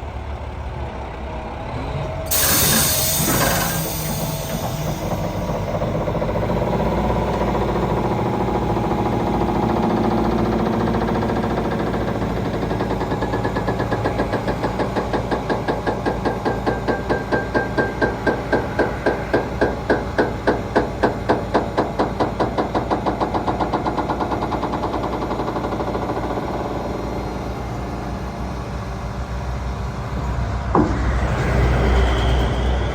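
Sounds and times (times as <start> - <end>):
truck diesel engine running: 0.0 - 32.9.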